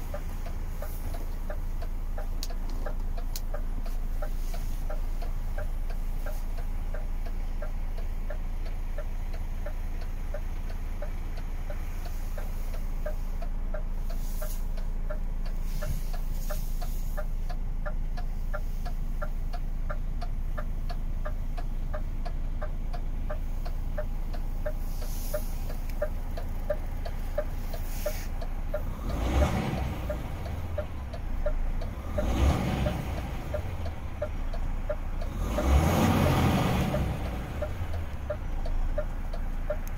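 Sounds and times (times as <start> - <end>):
diesel engine idling: 0.0 - 39.9
even ticking: 0.0 - 39.9.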